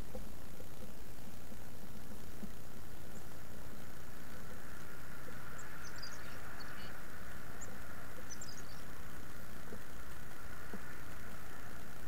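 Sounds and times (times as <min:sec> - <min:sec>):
songbirds chipping: 0:00.0 - 0:12.0
steady outdoor noise: 0:00.0 - 0:12.0.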